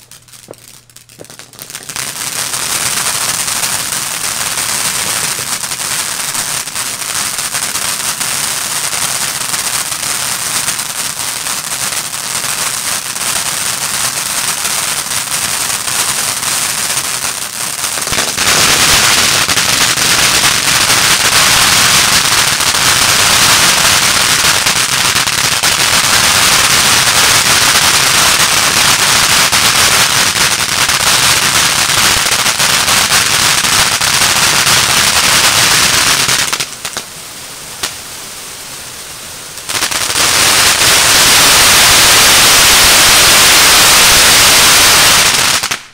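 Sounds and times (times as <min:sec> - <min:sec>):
firework fountain hissing and crackling: 0:00.0 - 0:45.9.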